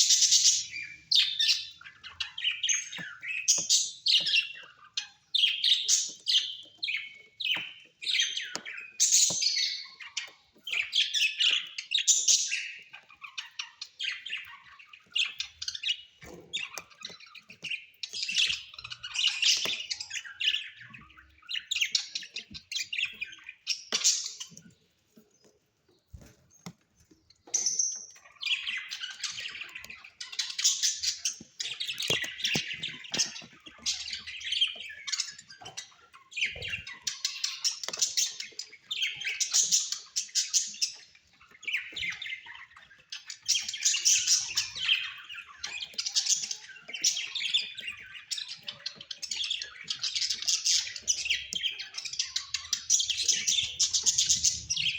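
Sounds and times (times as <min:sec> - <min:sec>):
parrots chattering and squawking: 0:00.0 - 0:24.9, 0:27.1 - 0:54.9.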